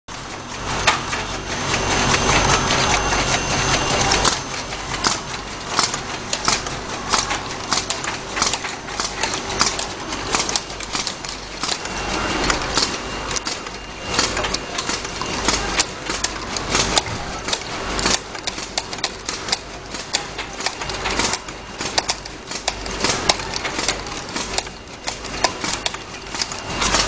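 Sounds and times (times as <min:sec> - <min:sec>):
motor and conveyor hum: 0:00.1 - 0:27.0
clicks and clatter of tubes: 0:02.7 - 0:27.0.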